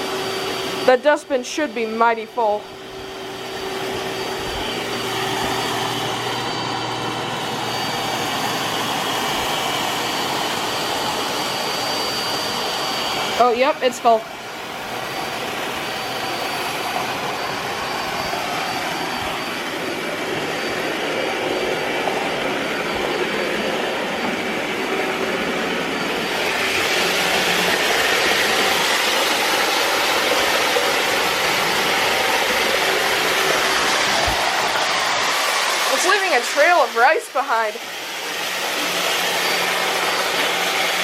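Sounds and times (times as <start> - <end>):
robot vacuum suction whir: 0.0 - 41.0.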